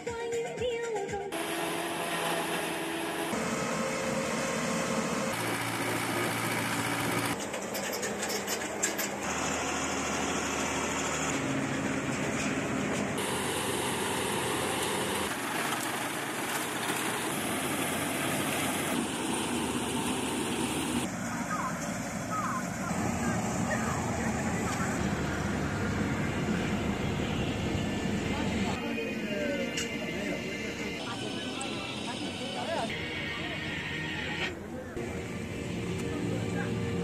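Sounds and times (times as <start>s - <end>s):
diesel farm machinery running: 1.3s - 37.0s.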